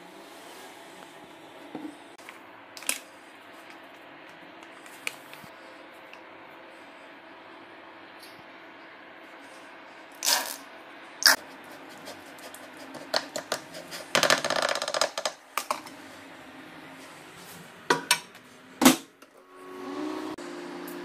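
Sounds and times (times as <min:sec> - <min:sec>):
microwave humming: 0:00.0 - 0:11.9, 0:13.0 - 0:21.0.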